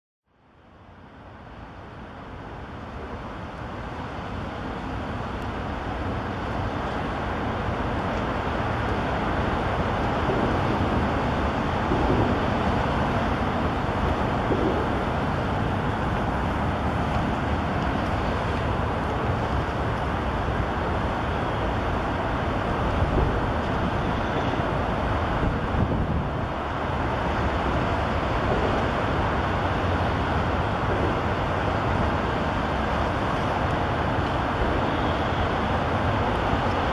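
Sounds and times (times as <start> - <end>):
highway traffic noise: 0.5 - 36.9.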